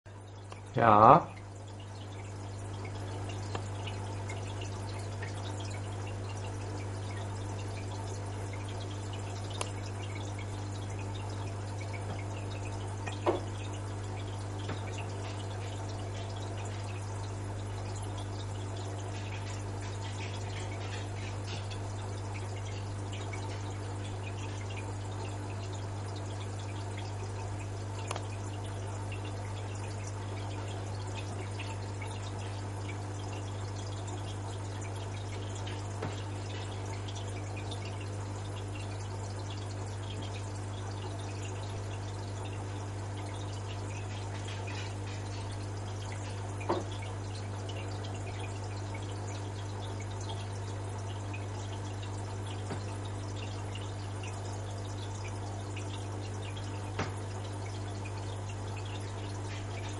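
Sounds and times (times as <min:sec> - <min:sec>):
water dripping and trickling: 0:00.1 - 0:59.9.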